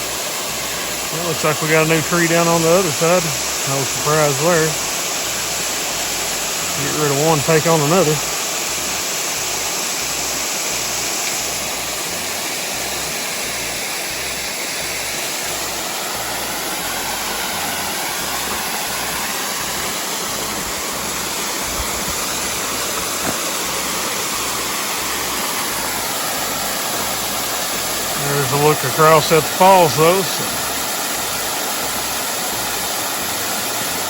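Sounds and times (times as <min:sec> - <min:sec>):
waterfall pouring: 0:00.0 - 0:34.0.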